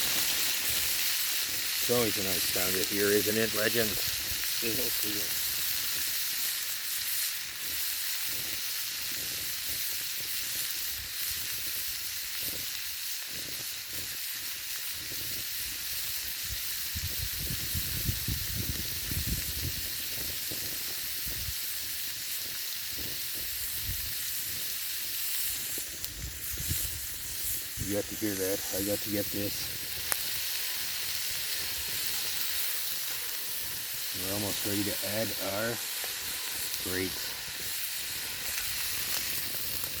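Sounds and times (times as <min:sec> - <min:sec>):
corn sizzling over coals: 0:00.0 - 0:40.0.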